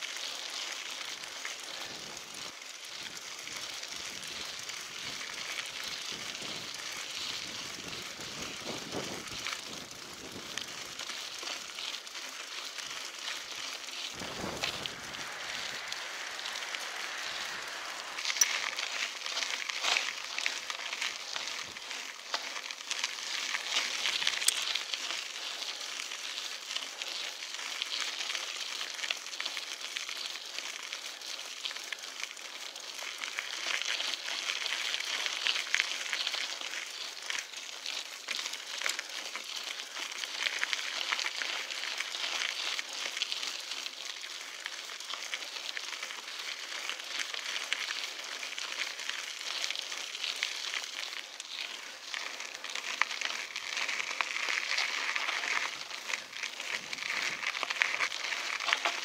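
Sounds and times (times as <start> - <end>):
bike tyres crunching on gravel: 0.0 - 59.0.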